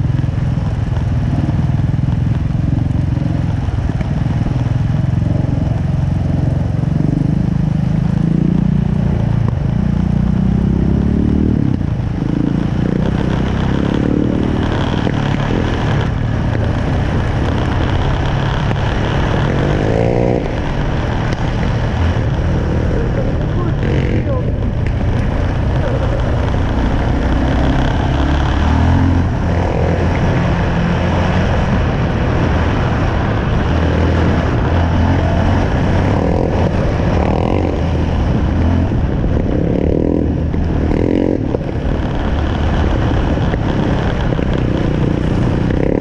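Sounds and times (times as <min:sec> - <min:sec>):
quad engine revving: 0:04.6 - 0:46.0.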